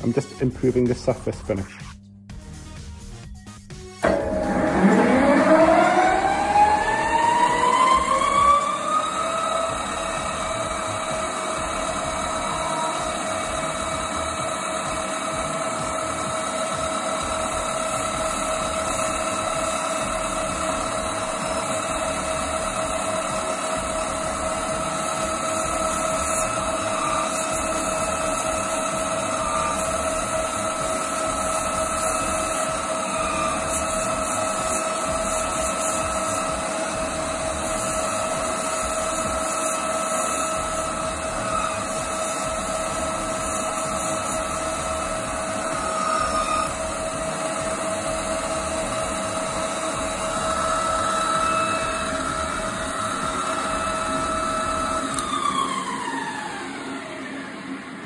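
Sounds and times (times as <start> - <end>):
lathe tool cutting metal bar: 4.0 - 57.3
lathe running with steady whine: 4.0 - 58.0.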